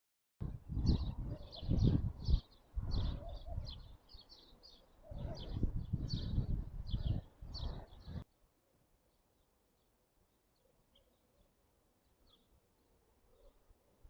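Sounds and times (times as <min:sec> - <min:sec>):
small birds chirping: 0:00.5 - 0:14.0.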